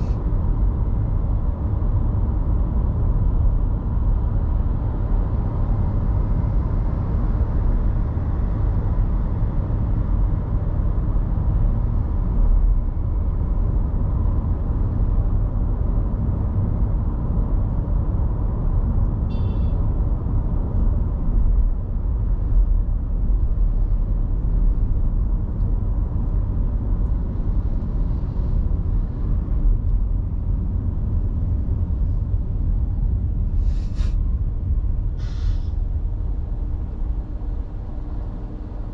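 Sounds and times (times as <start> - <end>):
car driving on road: 0.0 - 38.9.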